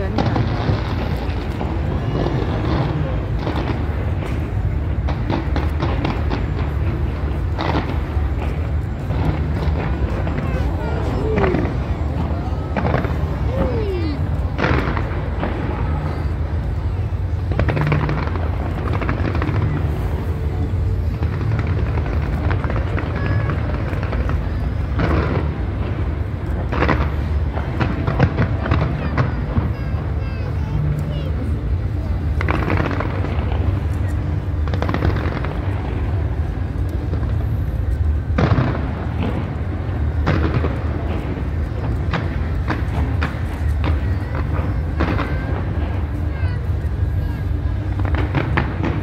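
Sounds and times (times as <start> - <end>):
continuous low rumble: 0.0 - 49.0
fireworks booming and crackling: 0.0 - 49.0.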